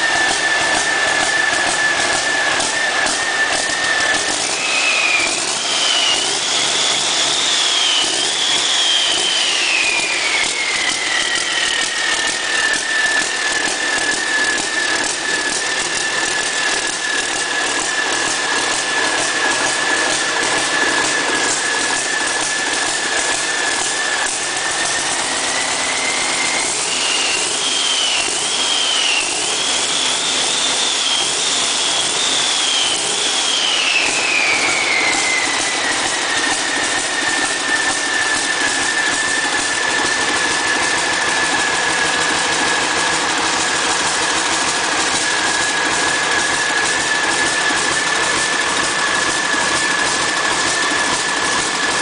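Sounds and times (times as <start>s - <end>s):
diesel engine revving: 0.0s - 52.0s
high engine whine: 0.0s - 52.0s.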